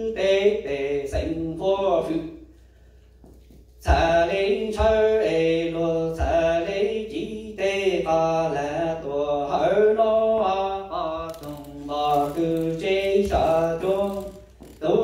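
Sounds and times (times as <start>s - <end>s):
man chanting into a microphone: 0.0s - 2.4s, 3.8s - 15.0s.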